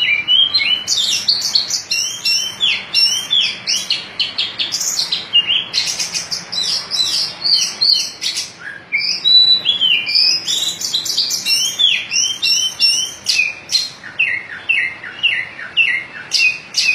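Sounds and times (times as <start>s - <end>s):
bird singing chirps and whistles: 0.0s - 16.9s.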